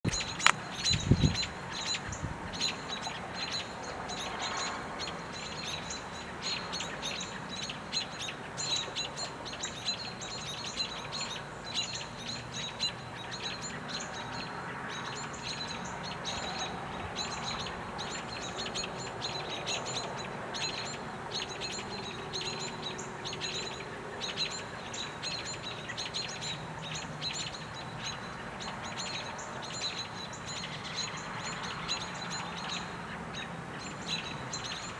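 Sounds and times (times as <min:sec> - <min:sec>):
small birds chip calls: 0:00.1 - 0:34.9.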